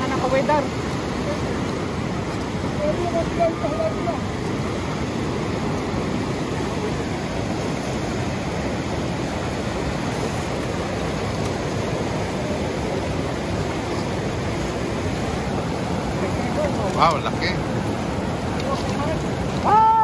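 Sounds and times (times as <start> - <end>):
river rapids rushing over rocks: 0.0 - 20.0.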